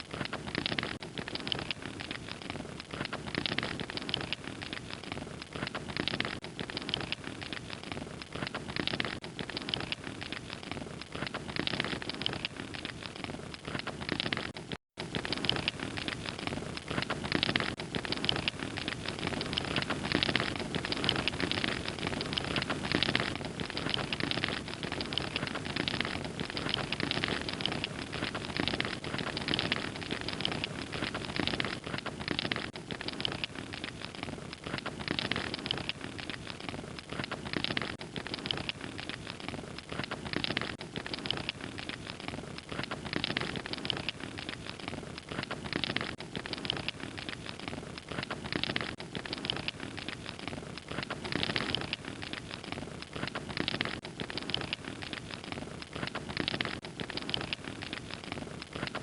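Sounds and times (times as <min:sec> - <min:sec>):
snaps and pops: 0:00.0 - 0:59.0
wood fire crackling: 0:00.0 - 0:59.0.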